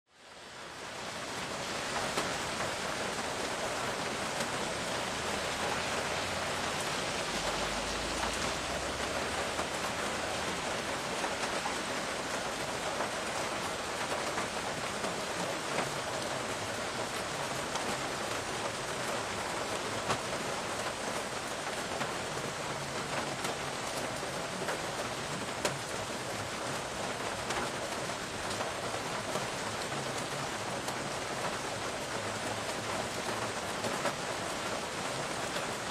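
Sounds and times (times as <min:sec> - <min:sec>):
steady rain falling: 0:00.1 - 0:35.9
raindrops ticking: 0:00.8 - 0:35.9.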